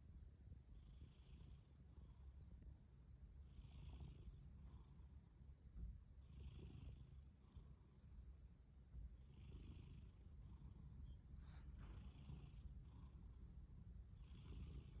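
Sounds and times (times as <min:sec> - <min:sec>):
cat snoring softly: 0:00.6 - 0:15.0.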